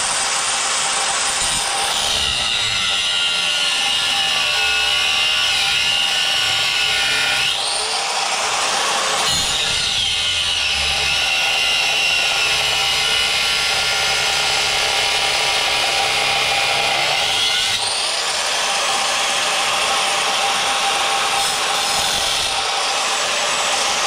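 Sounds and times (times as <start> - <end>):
angle grinder grinding metal: 0.0 - 24.0.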